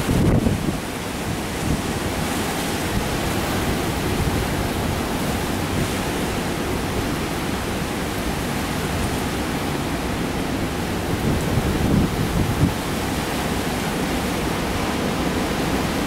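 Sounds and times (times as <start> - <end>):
heavy surf breaking: 0.0 - 16.0
strong wind: 0.0 - 16.0
wind buffeting microphone: 0.0 - 16.0.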